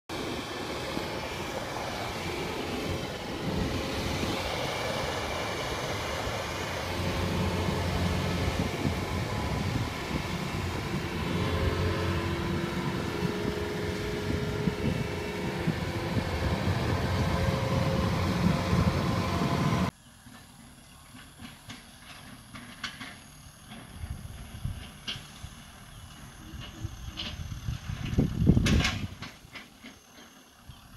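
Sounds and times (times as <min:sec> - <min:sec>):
combine harvester engine drone: 0:00.1 - 0:30.9
distant tractor engine: 0:00.1 - 0:30.9.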